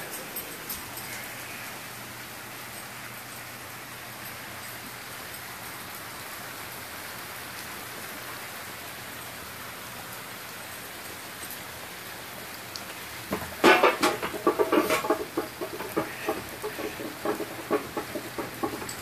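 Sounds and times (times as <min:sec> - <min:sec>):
rain falling on grass and pavement: 0:00.0 - 0:19.0.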